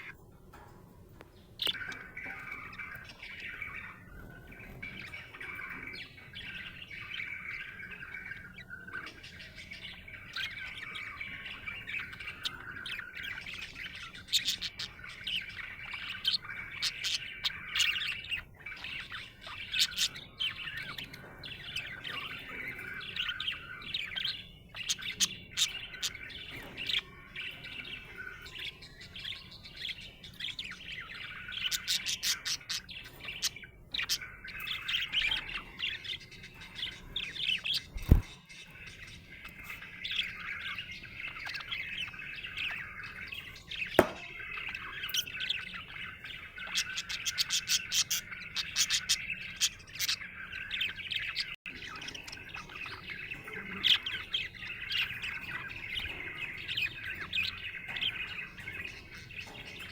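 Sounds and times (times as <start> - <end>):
budgerigar chattering and warbling: 5.1 - 28.9, 30.9 - 59.9.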